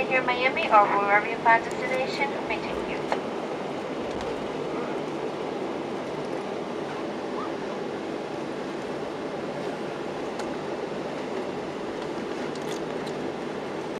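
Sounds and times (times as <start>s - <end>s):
airliner cabin hum: 0.0s - 13.9s.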